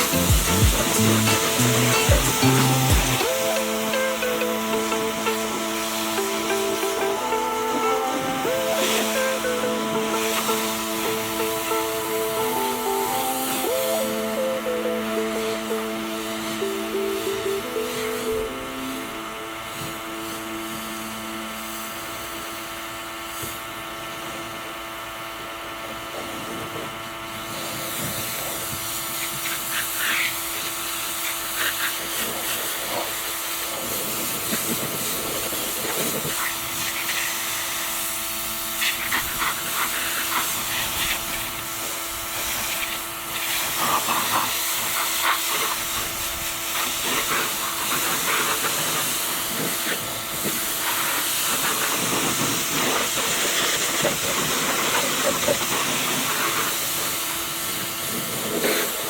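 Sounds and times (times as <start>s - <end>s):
pressure washer jet hissing: 0.0s - 18.2s, 28.9s - 59.0s
motor and pump hum: 0.0s - 59.0s.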